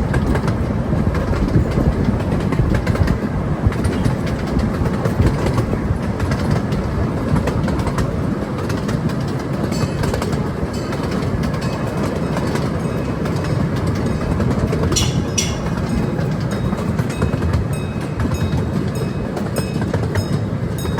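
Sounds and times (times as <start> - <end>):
train cars rumbling past: 0.0 - 20.9
wheels clicking over rail joints: 0.0 - 20.9.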